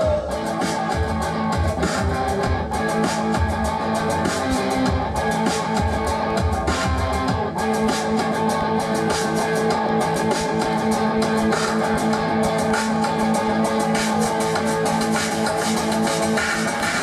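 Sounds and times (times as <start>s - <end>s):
bass guitar: 0.0s - 17.0s
strummed guitars: 0.0s - 17.0s.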